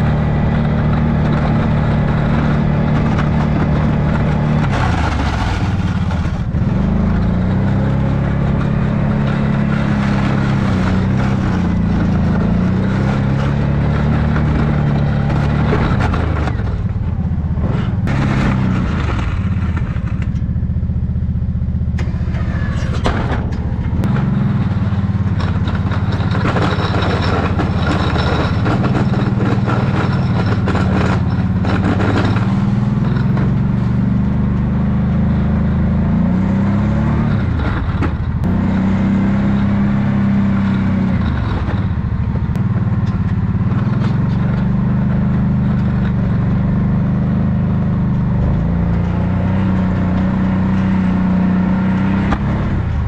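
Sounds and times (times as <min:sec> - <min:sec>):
atv engine under load: 0:00.0 - 0:53.0
plow blade pushing snow: 0:00.0 - 0:53.0.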